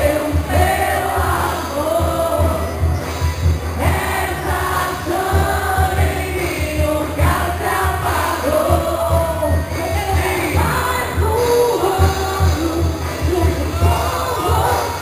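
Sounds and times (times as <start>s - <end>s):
deep steady beat: 0.0s - 15.0s
voices singing together: 0.0s - 15.0s.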